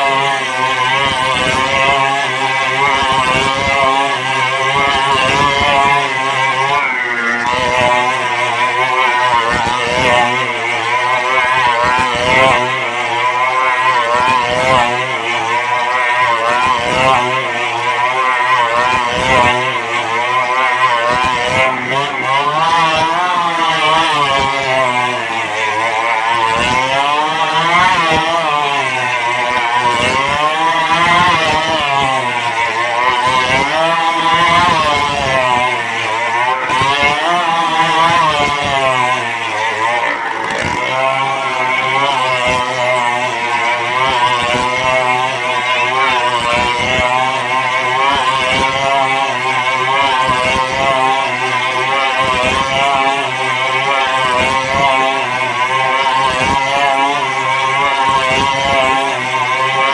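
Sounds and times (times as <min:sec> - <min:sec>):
motorcycle engines running hard: 0:00.0 - 0:59.9.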